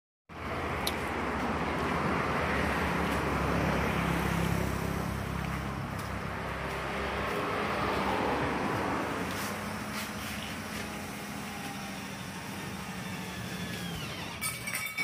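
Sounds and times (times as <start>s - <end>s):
road traffic rumble: 0.3s - 15.0s.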